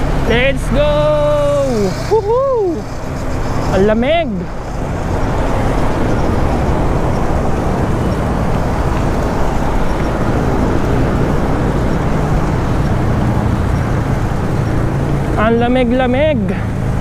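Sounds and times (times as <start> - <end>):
faint road traffic: 0.0 - 17.0
wind buffeting microphone: 0.0 - 17.0.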